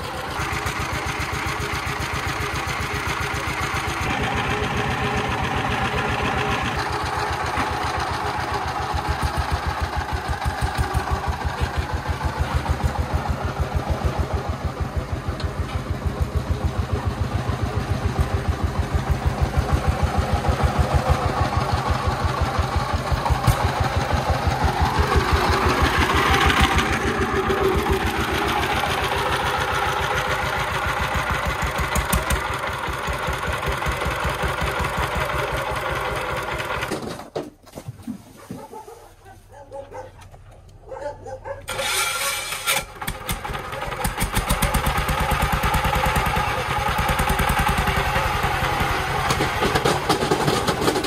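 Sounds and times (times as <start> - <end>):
diesel engine chugging: 0.0 - 37.3, 39.9 - 51.0.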